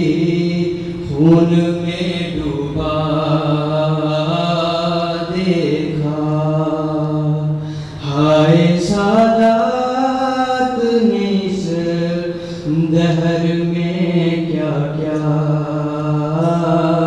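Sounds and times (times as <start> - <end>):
man chanting mournful recitation: 0.0 - 17.0.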